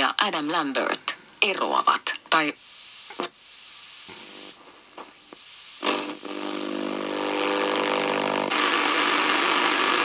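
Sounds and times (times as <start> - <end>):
radio static hiss with buzzing: 0.0 - 10.0.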